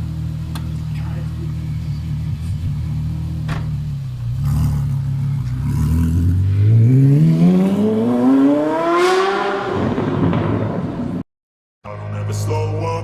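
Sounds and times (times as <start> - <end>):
sports car engine accelerating: 0.0 - 11.2.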